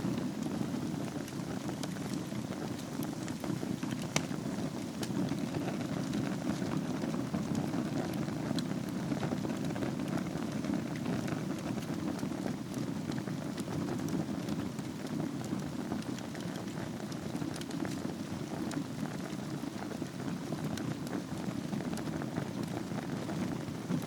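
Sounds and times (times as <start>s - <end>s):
fire crackling and popping: 0.0s - 24.0s
fire flames rushing: 0.0s - 24.0s.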